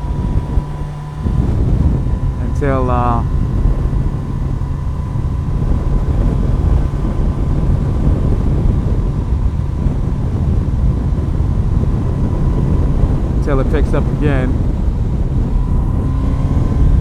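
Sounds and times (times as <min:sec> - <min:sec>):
motorcycle engine rumble: 0:00.0 - 0:17.0
wind rushing over microphone: 0:00.0 - 0:17.0.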